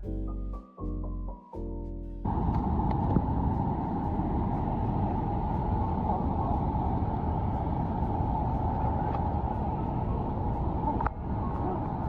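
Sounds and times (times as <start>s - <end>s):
waterfall roaring: 2.3s - 12.0s.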